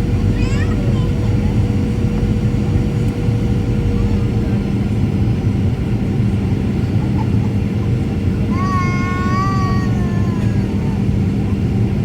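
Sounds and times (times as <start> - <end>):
aircraft engines and airflow rumble: 0.0 - 12.0.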